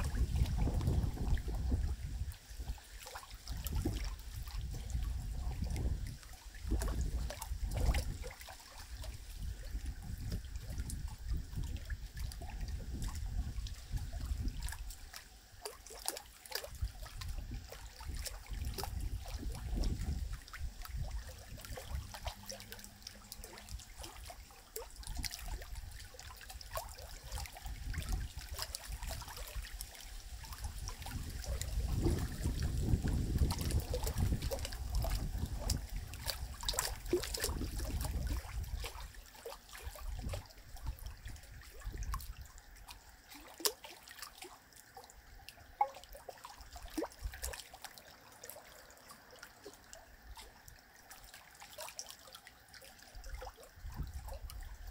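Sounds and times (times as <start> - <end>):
river water trickling: 0.0 - 54.9
small clicks and splashes: 0.0 - 54.9.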